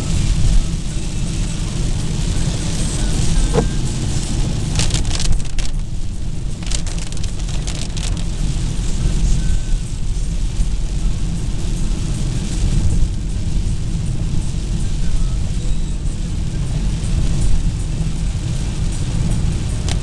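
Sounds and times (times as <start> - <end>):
car driving on wet road: 0.0 - 20.0
rain: 0.0 - 20.0.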